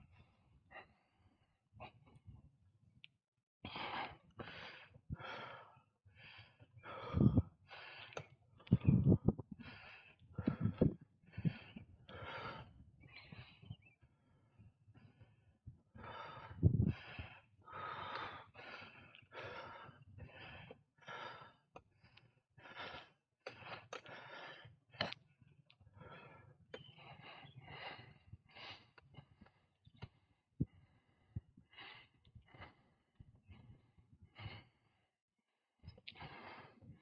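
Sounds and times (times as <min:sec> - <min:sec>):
cyclist breathing hard: 0:00.0 - 0:02.3, 0:03.6 - 0:35.2, 0:35.8 - 0:37.0.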